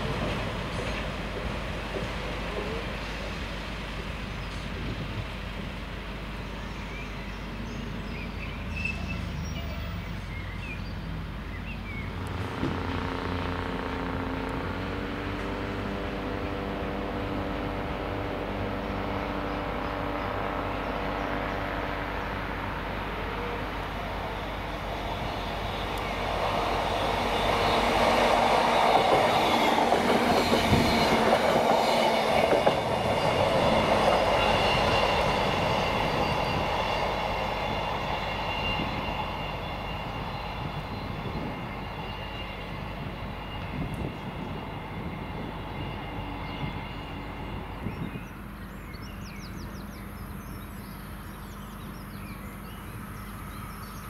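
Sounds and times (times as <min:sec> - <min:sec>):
train wheels on rails: 0:00.0 - 0:49.8
diesel train engine: 0:00.0 - 0:54.0.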